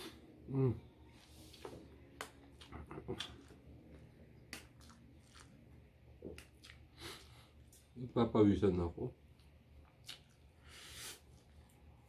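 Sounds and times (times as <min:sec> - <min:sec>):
man chewing noodles: 0:00.0 - 0:07.8, 0:09.3 - 0:12.0.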